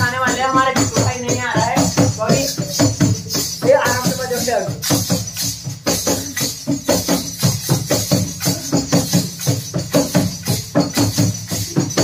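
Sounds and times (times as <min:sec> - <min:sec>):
wooden clapper with jingles: 0:00.0 - 0:12.0.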